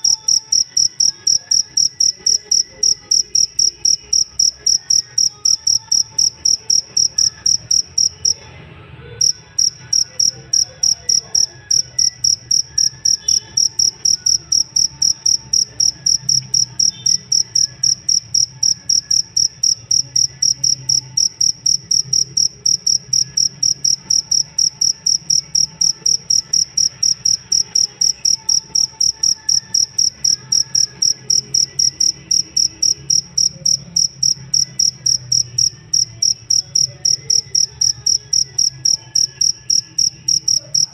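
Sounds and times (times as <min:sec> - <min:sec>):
cricket chirping: 0:00.0 - 0:08.4, 0:09.2 - 0:40.9.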